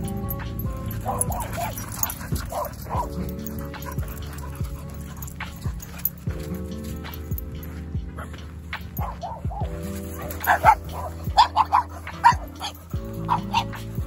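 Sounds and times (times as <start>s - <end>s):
background music: 0.0s - 14.0s
dog barking: 0.0s - 14.0s.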